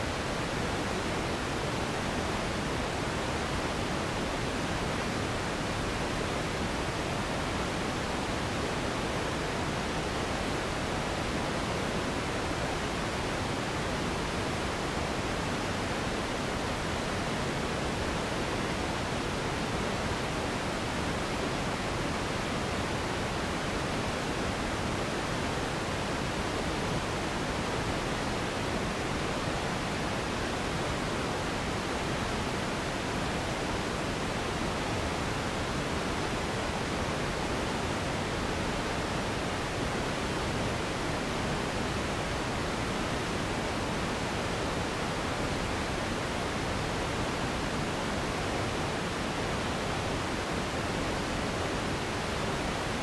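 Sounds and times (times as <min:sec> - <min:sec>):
steady hiss of sleep noise: 0:00.0 - 0:53.0.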